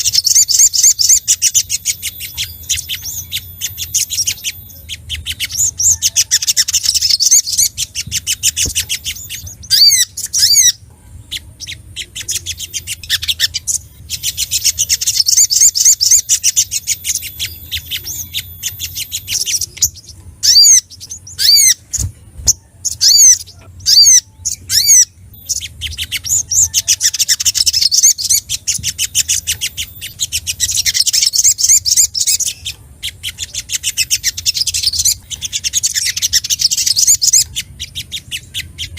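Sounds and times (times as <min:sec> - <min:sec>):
sunbird high twittering song: 0:00.0 - 0:38.9.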